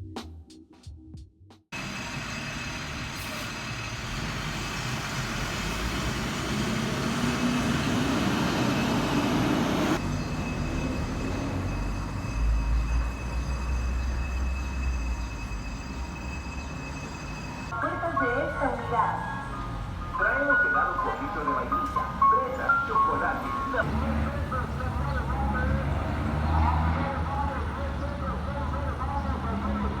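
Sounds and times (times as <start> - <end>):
heavy vehicle engine rushing: 1.8 - 30.0.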